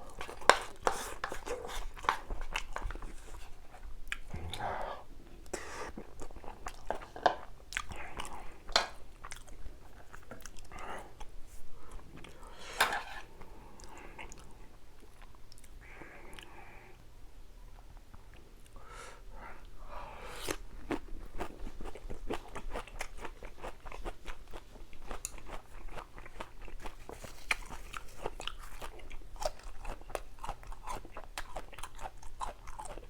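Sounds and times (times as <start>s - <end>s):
chewing and crunching food: 0.0s - 4.7s, 5.9s - 12.6s, 13.2s - 16.7s, 20.4s - 33.0s.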